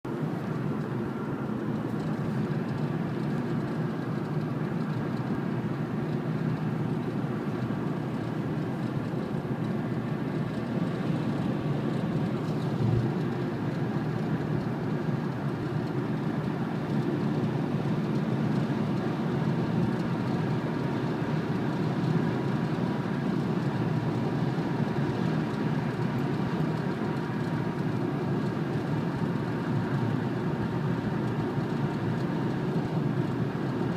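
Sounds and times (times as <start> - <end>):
road and engine noise: 0.0 - 33.9.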